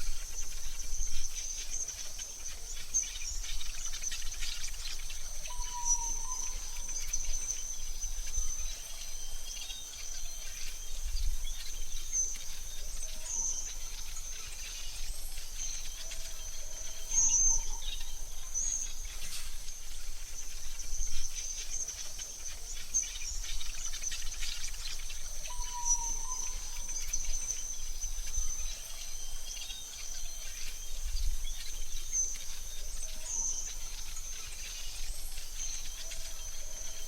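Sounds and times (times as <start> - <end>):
bird chirps: 0.0 - 37.0
insect drone: 0.0 - 37.0
whistled bird calls: 0.0 - 37.0.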